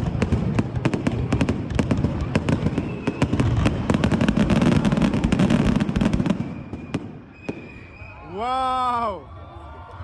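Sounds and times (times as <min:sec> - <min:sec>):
fireworks bangs and crackles: 0:00.0 - 0:08.2.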